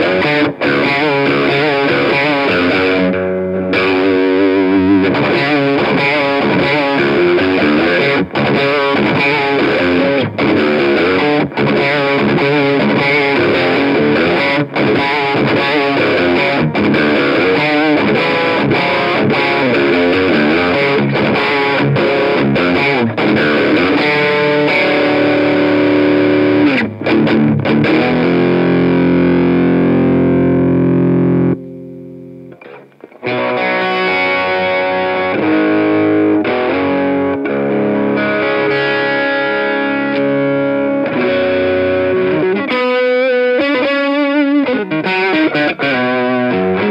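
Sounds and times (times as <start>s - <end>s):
overdriven electric guitar riffs: 0.0s - 46.9s.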